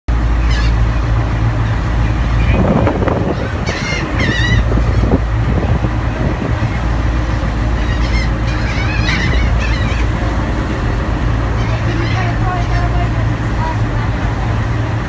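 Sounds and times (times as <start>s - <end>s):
birds wavering cries: 0.1s - 14.3s
steady low rumble: 0.1s - 15.0s.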